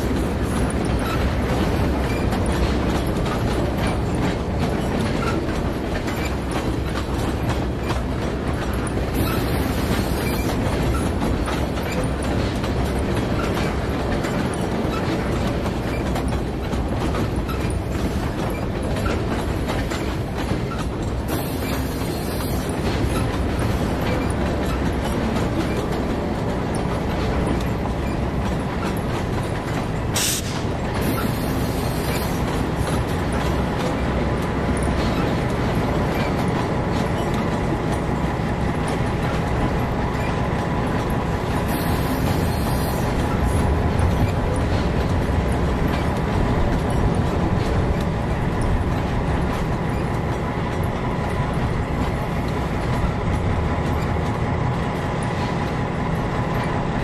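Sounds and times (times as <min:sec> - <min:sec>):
diesel train engine rumble: 0:00.0 - 0:57.0
wheel and rail noise: 0:00.0 - 0:57.0.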